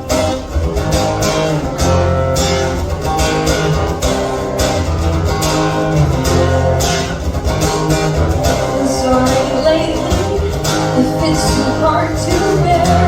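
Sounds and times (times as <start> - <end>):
guitar chords strummed: 0.0 - 13.0
sustained low bass notes: 0.0 - 13.0.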